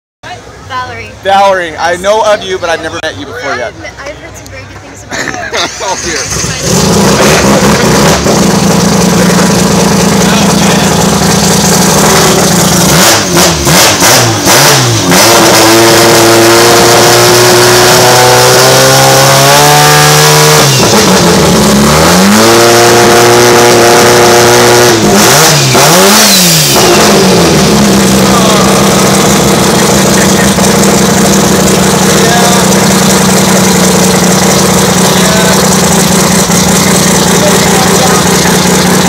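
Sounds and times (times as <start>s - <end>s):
rotary engine revving: 5.6s - 39.0s.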